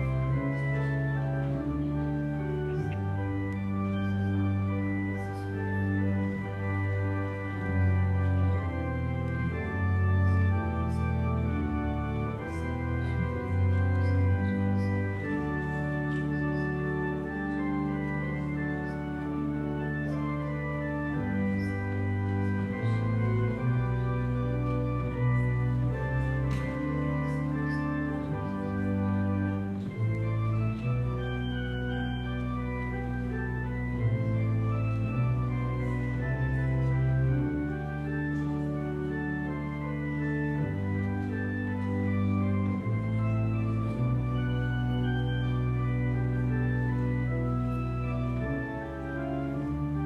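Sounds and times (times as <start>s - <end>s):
church organ chords: 0.0s - 50.0s.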